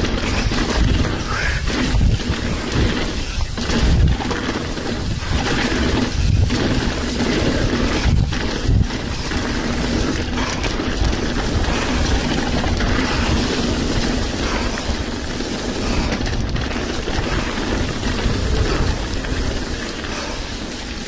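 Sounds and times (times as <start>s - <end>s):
wind on microphone: 0.0s - 20.4s
bike tyre noise and rattle: 0.0s - 21.0s.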